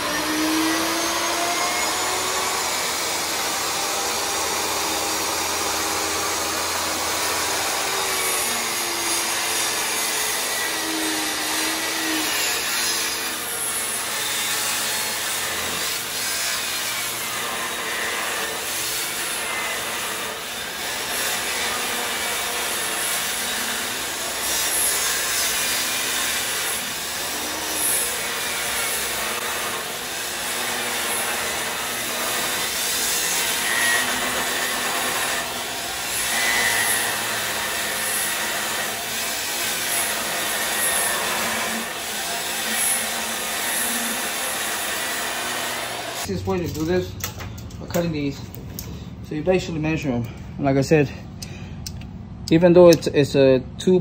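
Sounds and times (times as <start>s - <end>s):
table saw cutting wood: 0.0s - 46.9s.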